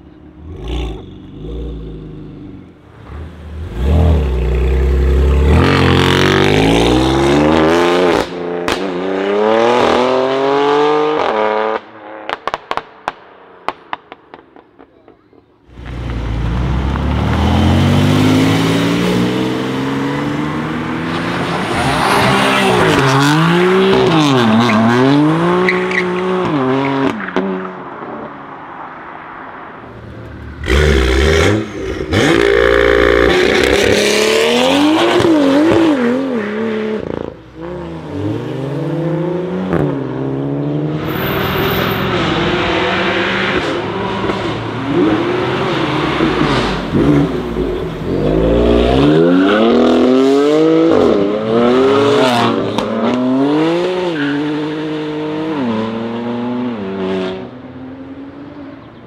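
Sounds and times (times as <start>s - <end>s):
car engines revving and accelerating: 0.0s - 12.8s, 15.7s - 59.0s.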